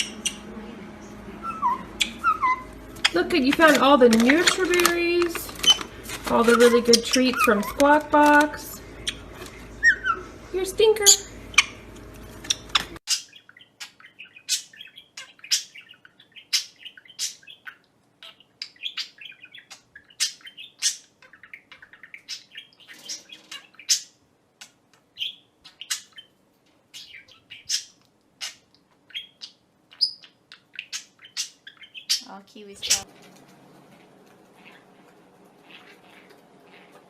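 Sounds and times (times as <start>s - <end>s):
parrot chirping: 0.0s - 33.2s, 34.0s - 37.0s.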